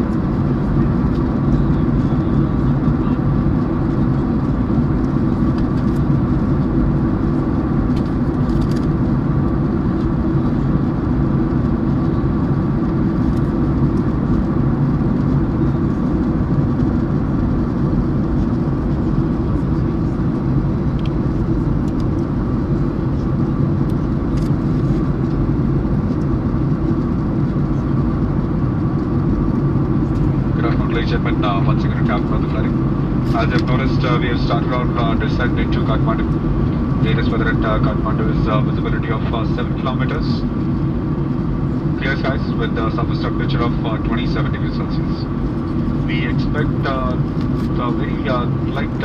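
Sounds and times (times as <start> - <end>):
airliner cabin engine drone: 0.0 - 49.0.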